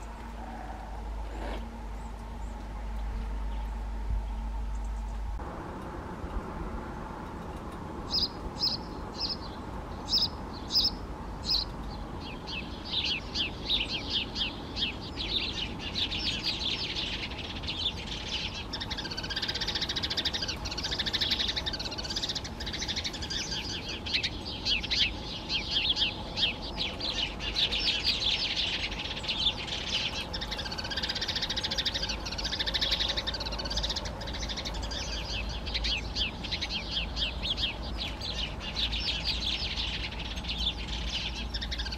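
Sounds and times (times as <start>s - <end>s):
wild birds calling: 0.0s - 5.3s, 8.1s - 41.9s
birds twittering: 0.0s - 5.4s, 7.5s - 41.9s.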